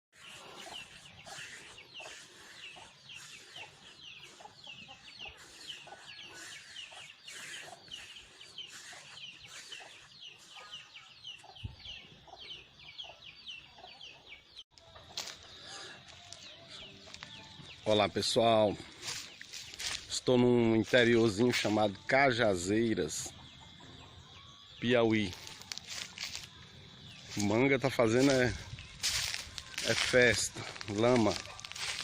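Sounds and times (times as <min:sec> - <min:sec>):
chicks peeping: 0:00.2 - 0:20.4, 0:22.7 - 0:32.0
chickens clucking: 0:00.2 - 0:32.0.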